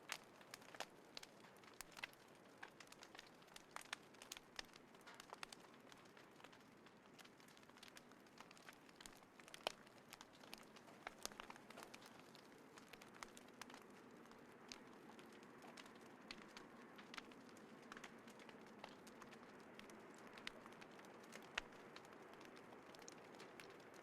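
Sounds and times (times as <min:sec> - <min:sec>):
small wood fire crackling: 0:00.0 - 0:24.0
soft hiss of burning: 0:00.0 - 0:24.0.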